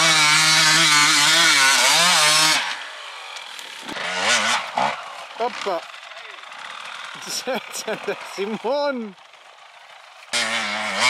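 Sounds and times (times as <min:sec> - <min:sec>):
motorcycle engine at high revs: 0:00.0 - 0:11.0
quieter engine revving: 0:00.0 - 0:11.0.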